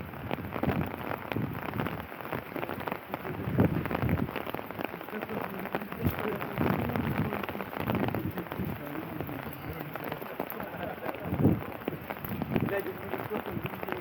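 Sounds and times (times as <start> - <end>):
rain on an umbrella: 0.0 - 14.0.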